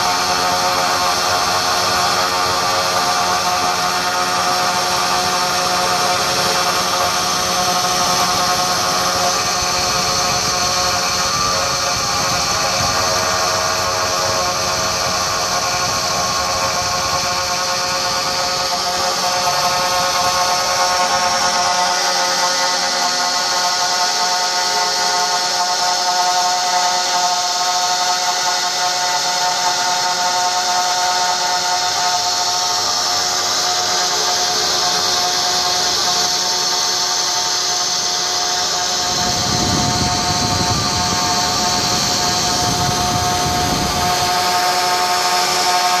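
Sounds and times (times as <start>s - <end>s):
router spindle whining: 0.0s - 46.0s.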